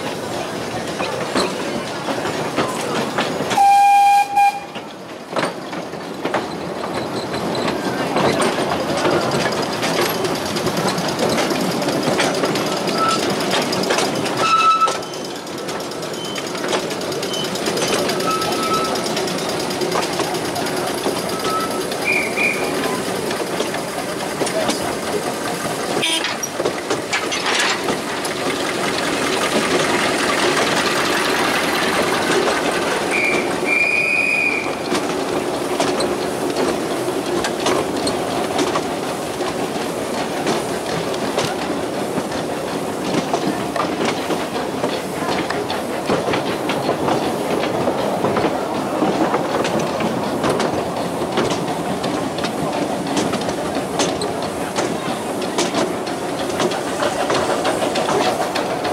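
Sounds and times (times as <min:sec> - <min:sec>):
train rumbling over rail joints: 0:00.0 - 0:58.9.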